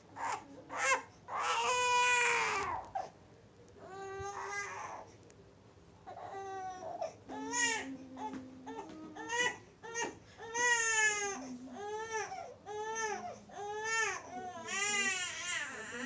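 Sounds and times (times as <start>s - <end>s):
infant crying: 0.2s - 3.1s, 3.8s - 5.1s, 6.1s - 16.0s.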